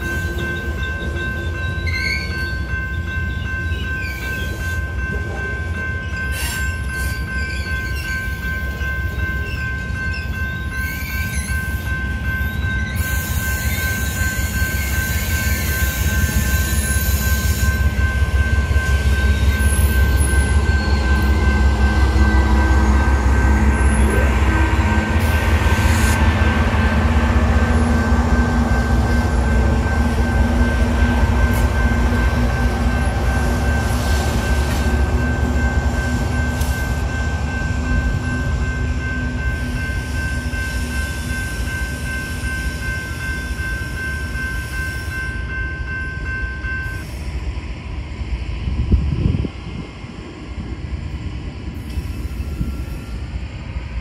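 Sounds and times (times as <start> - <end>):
crossing bell ringing: 0.0 - 47.5
train wheels rumbling on rails: 0.0 - 54.0.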